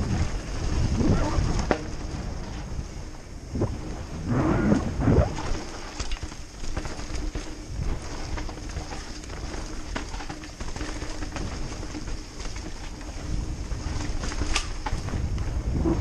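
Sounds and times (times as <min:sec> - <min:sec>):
bike rattling with clicks: 0:00.0 - 0:15.8
bike tyres rumbling on dirt: 0:00.0 - 0:16.0
wind noise on microphone: 0:00.0 - 0:16.0.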